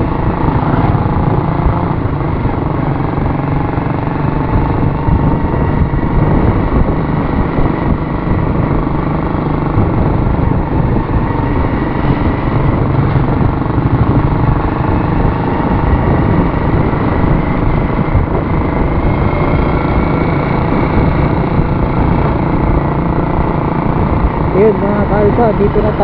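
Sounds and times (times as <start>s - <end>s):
motorcycle engine: 0.0s - 26.0s
road noise: 0.0s - 26.0s.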